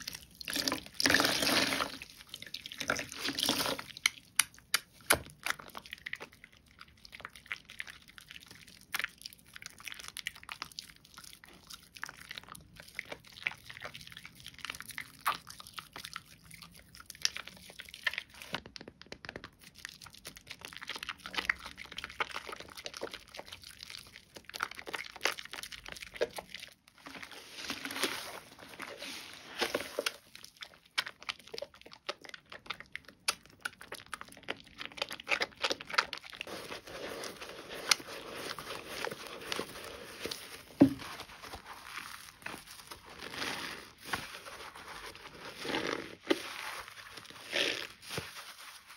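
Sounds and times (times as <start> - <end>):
wet soap squelching and crackling: 0.0 - 48.9.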